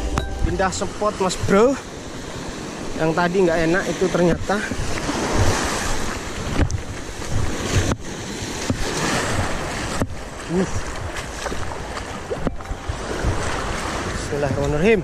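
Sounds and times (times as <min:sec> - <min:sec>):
sea surf over rocks: 0:00.0 - 0:15.0
wind rumbling on microphone: 0:00.0 - 0:15.0.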